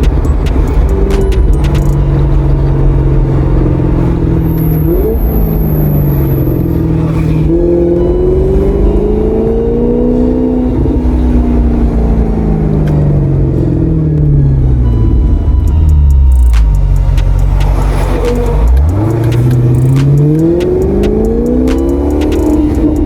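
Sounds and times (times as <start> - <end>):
car engine droning: 0.0 - 23.0.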